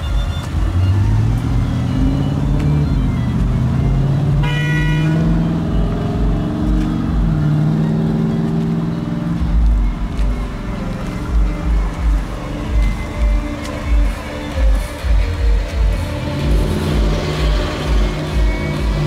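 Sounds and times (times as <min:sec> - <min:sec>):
bass-heavy music with thumping beat: 0:00.0 - 0:19.0.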